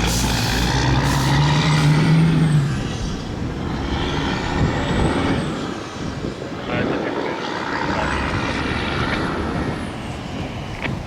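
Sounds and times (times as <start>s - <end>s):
diesel locomotive engines droning: 0.0s - 11.0s.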